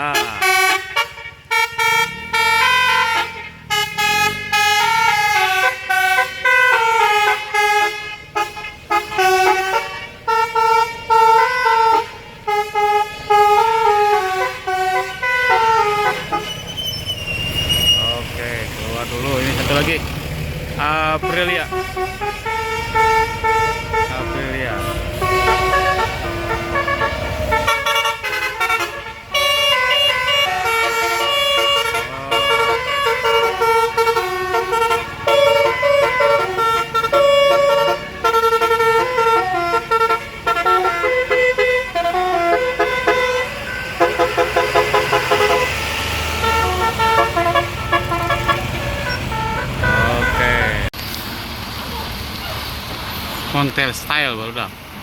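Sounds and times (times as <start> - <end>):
multi-tone bus horn melody: 0.0 - 19.9, 20.8 - 50.9
bus engine running: 0.0 - 55.0.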